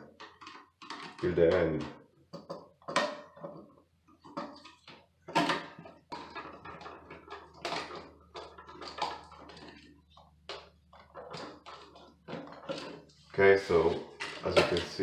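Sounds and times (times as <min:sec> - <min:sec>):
plastic clicks and knocks: 0:00.0 - 0:13.1.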